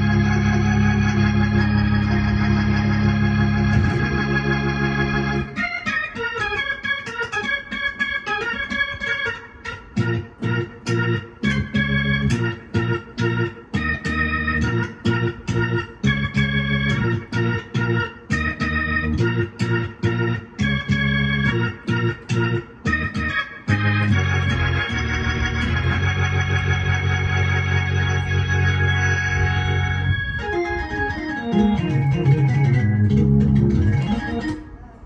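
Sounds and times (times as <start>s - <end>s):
electronic organ keyboard playing: 0.0s - 35.0s.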